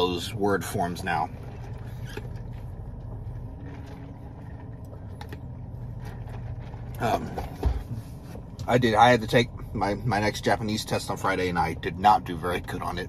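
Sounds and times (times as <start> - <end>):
car idling from inside cabin: 0.0 - 13.0.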